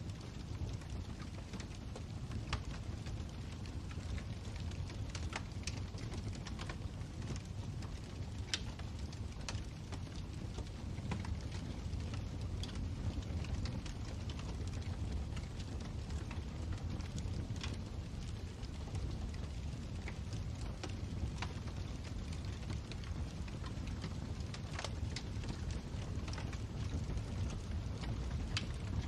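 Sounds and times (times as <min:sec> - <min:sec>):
burning wood crackling: 0:00.0 - 0:29.0
fire flames rumbling: 0:00.0 - 0:29.0.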